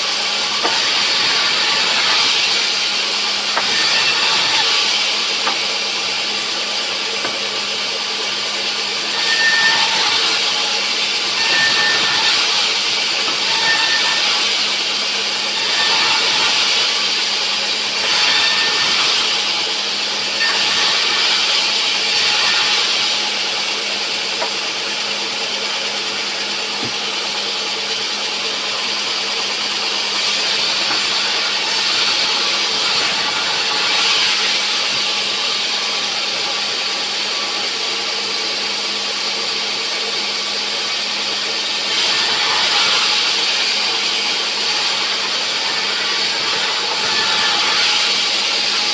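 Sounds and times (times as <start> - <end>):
saw cutting through log: 0.0 - 48.9.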